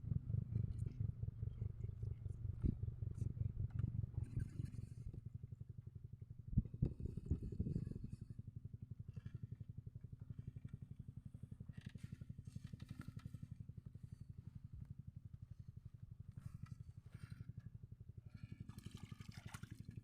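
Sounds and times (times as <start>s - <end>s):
small engine running: 1.8s - 20.0s.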